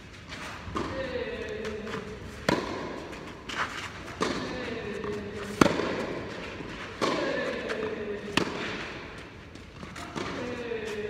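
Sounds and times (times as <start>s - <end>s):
racquet striking tennis ball: 1.6s - 10.6s.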